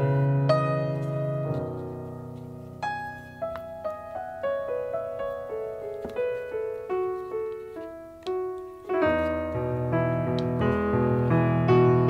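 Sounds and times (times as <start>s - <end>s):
slow piano notes: 0.0s - 12.0s.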